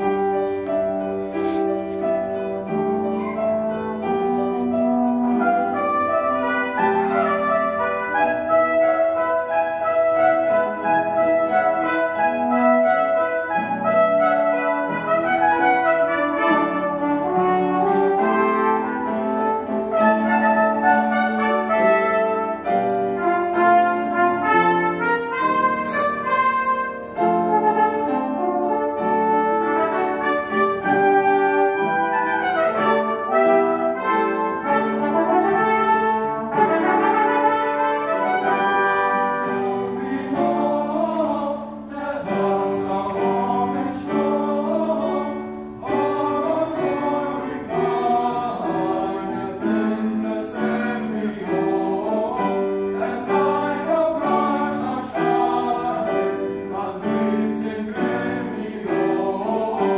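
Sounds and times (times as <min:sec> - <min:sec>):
piano and instrumental ensemble: 0:00.0 - 0:59.9
choir singing: 0:04.1 - 0:59.9.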